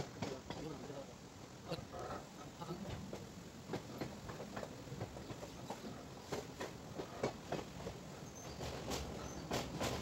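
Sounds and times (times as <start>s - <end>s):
train wheels clattering over track: 0.0s - 1.1s, 2.7s - 10.0s.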